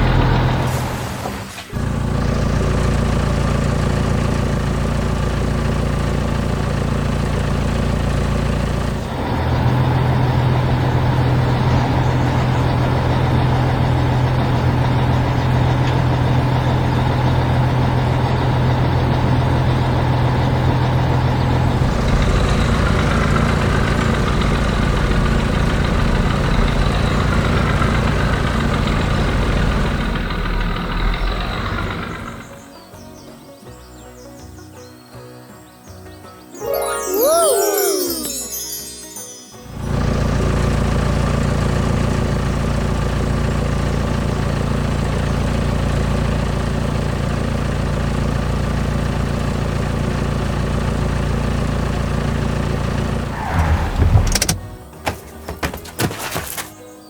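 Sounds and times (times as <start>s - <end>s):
heavy vehicle engines running: 0.0s - 32.6s, 39.7s - 57.0s.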